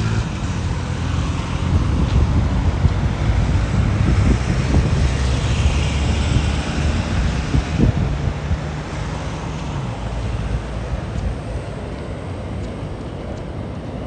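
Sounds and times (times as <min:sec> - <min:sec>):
traffic hiss on wet road: 0:00.0 - 0:14.0
wind buffeting microphone: 0:00.0 - 0:14.0.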